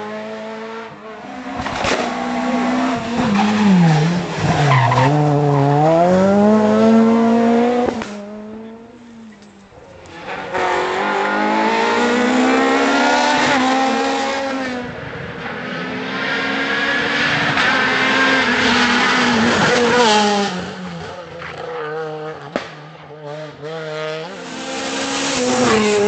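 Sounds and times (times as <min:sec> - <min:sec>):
rally car engines at high revs: 0:00.0 - 0:26.0.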